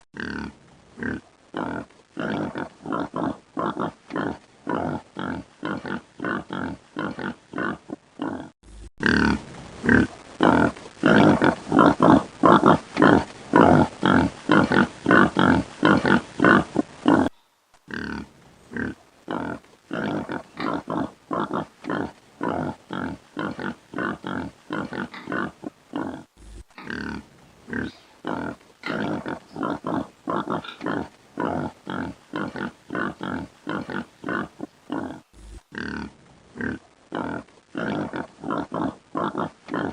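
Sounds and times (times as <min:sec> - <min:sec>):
pigs grunting: 0:00.2 - 0:39.9.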